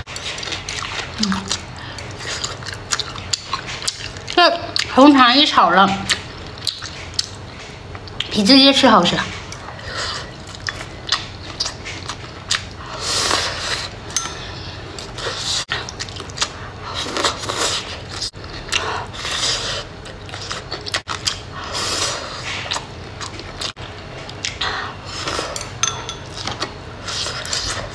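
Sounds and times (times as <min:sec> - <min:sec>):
person chewing food: 0:00.0 - 0:04.9, 0:06.1 - 0:08.3, 0:09.4 - 0:27.9.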